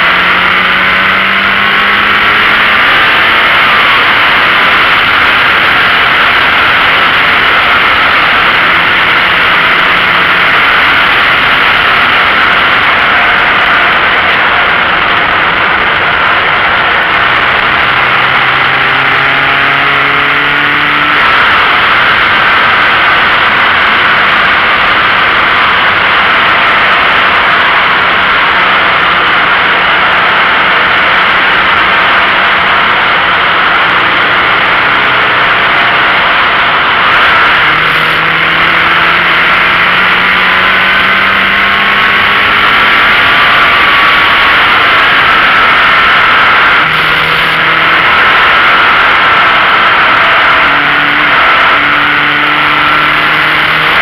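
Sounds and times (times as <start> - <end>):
faint car engine: 0.0 - 54.0
wind and tyre roar: 0.0 - 54.0.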